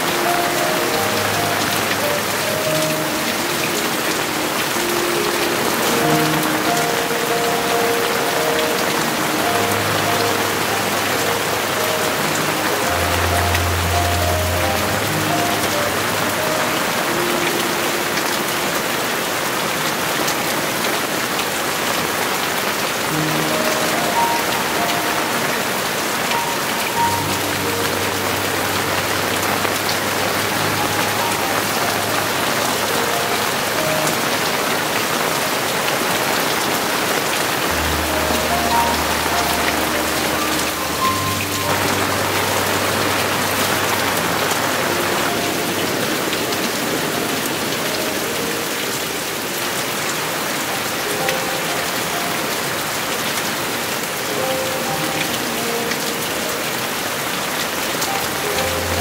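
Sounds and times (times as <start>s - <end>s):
heavy rain pattering: 0.0s - 59.0s
soft background music: 0.0s - 59.0s.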